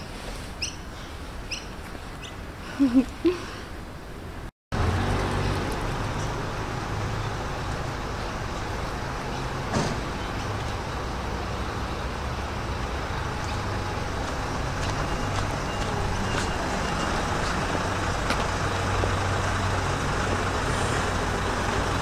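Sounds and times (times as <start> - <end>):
road traffic: 0.0 - 22.0
vehicle engine rumble: 0.0 - 22.0.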